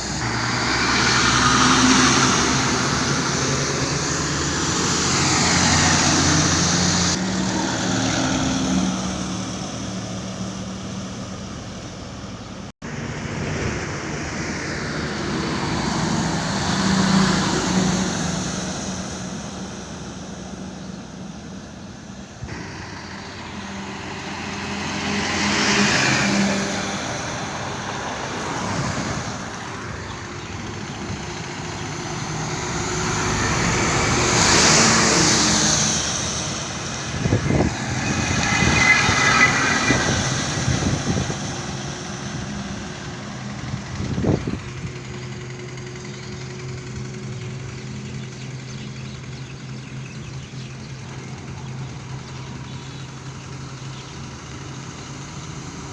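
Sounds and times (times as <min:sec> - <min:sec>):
trucks passing on road: 0:00.0 - 0:55.9.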